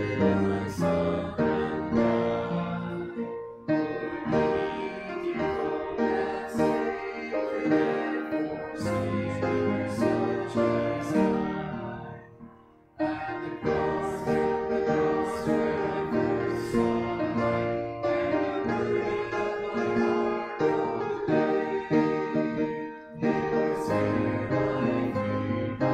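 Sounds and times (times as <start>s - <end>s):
people singing a hymn: 0.0s - 25.9s
piano accompaniment: 0.0s - 25.9s.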